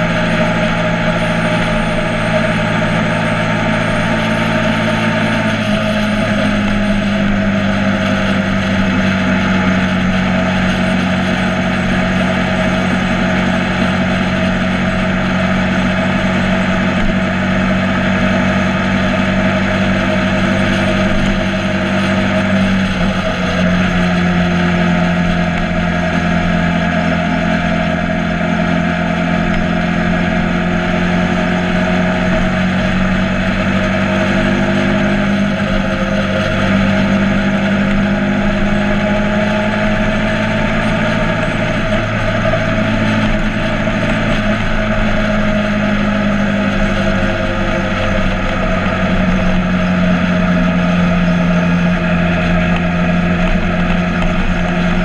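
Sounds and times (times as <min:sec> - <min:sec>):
motorcycle engine running: 0:00.0 - 0:55.0
rushing wind noise: 0:00.0 - 0:55.0.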